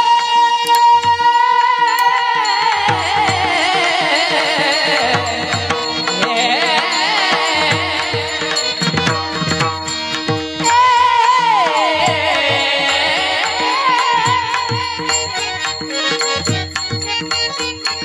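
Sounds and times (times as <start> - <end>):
harmonium melody: 0.0 - 18.0.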